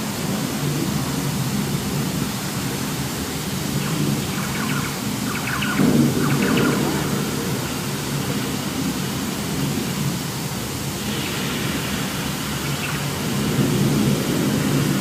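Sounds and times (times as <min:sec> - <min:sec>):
volcano effect rushing rumble: 0:02.6 - 0:15.0.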